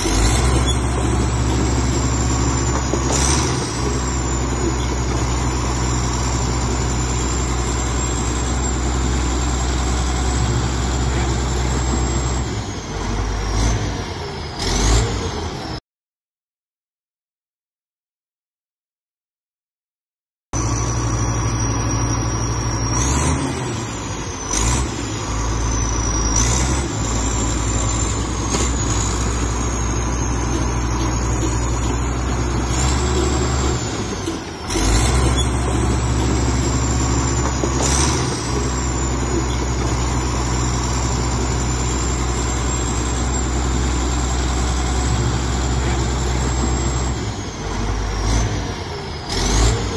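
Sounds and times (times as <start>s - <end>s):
bulldozer diesel engine revving: 0.0s - 15.8s, 20.6s - 49.9s.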